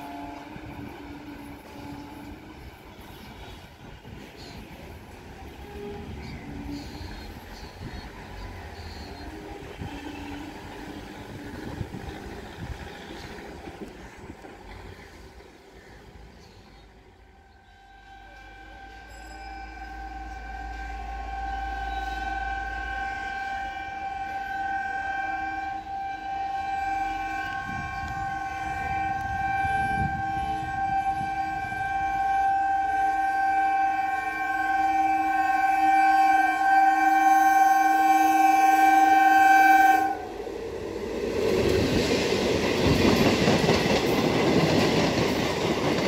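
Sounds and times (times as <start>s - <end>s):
train horn long blast: 0.0s - 14.1s, 16.4s - 42.2s
train rumble: 0.0s - 46.0s.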